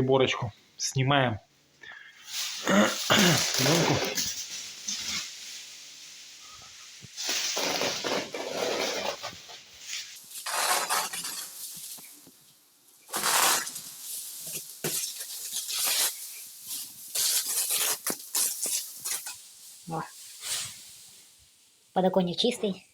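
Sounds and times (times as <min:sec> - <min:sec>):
plastic film rustling and crackling: 0:02.2 - 0:22.8.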